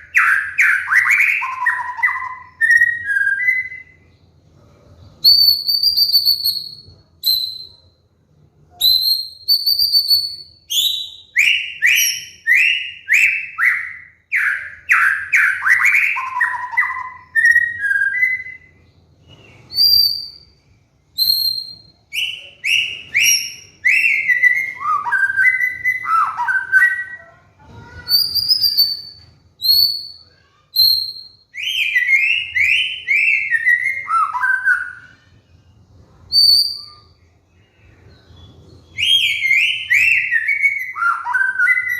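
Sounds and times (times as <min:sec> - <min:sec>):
bird singing whistles: 0:00.0 - 0:04.1, 0:05.2 - 0:08.0, 0:08.7 - 0:27.3, 0:28.0 - 0:41.9.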